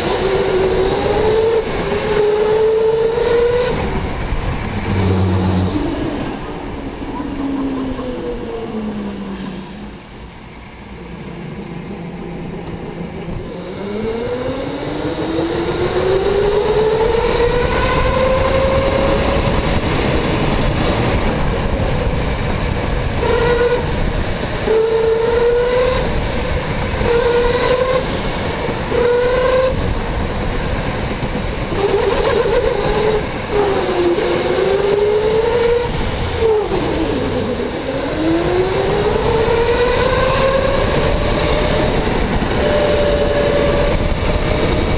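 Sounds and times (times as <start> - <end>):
tyre and road noise: 0.0 - 44.9.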